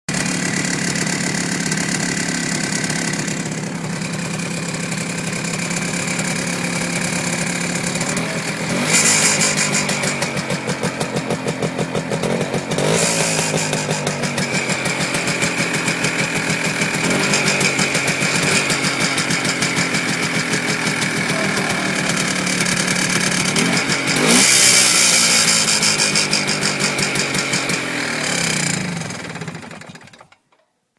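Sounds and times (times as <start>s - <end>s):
two-stroke motorcycle engine revving: 0.1s - 30.4s.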